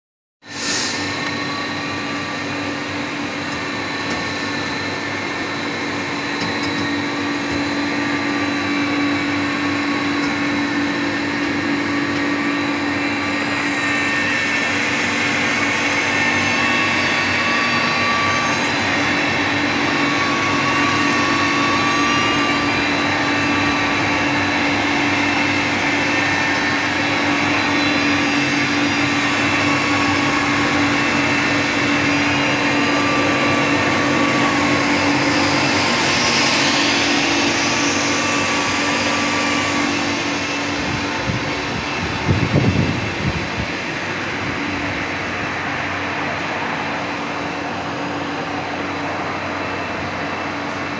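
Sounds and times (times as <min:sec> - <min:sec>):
machine hum with held tones: 0:00.6 - 0:50.9.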